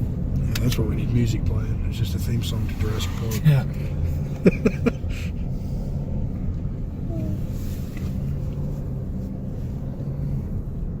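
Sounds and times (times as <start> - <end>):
car engine running: 0.0 - 11.0
tyre and road rumble: 0.0 - 11.0.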